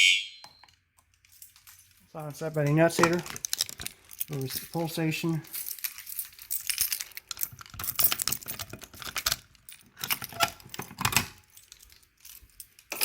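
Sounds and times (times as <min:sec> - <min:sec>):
metallic rattling and clicking: 0:00.6 - 0:13.0.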